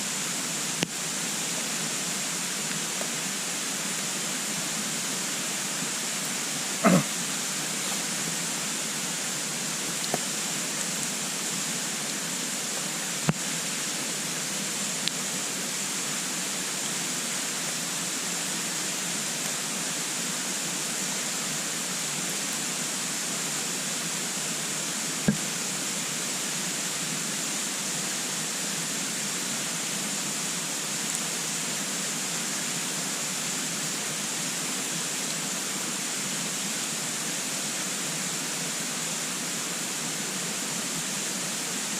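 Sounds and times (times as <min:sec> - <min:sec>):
steady fire hiss: 0:00.0 - 0:41.9.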